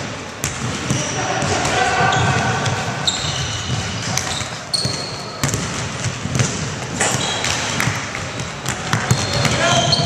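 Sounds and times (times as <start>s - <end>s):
sneakers squeaking: 0.4s - 10.0s.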